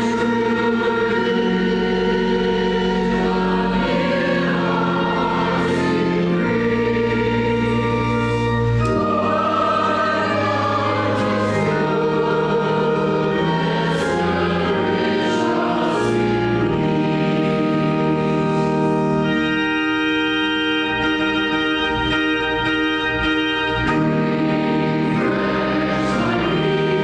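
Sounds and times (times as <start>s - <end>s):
congregation singing a hymn: 0.0s - 27.0s
organ chords: 0.0s - 27.0s.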